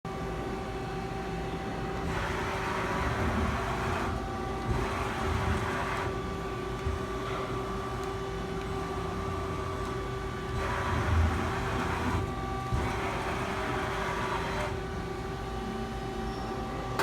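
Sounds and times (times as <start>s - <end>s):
machine tool humming and whining: 0.1s - 17.0s.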